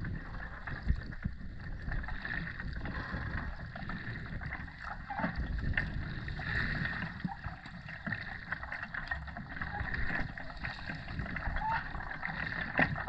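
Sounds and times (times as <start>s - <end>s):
faint clicks and crackles: 0.0s - 13.0s
muffled underwater water rush: 0.0s - 13.0s.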